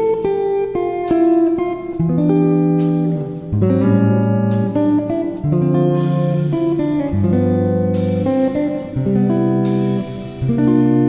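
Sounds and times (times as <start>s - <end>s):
plucked guitar notes: 0.0s - 11.0s.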